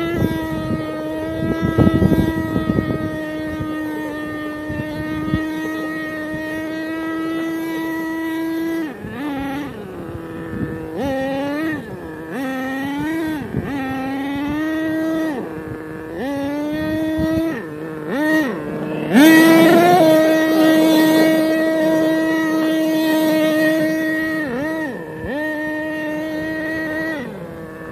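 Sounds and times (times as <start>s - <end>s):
nitro engine revving: 0.0s - 27.9s.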